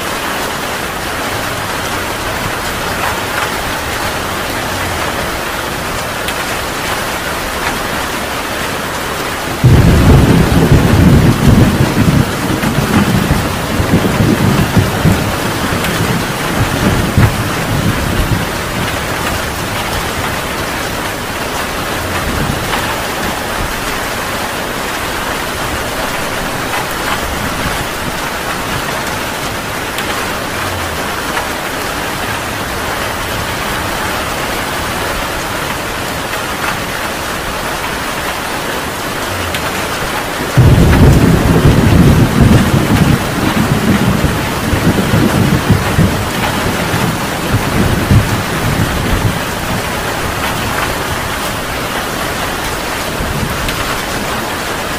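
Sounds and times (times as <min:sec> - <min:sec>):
heavy rain falling: 0:00.0 - 0:54.9
thunder clap and rumble: 0:00.1 - 0:54.9.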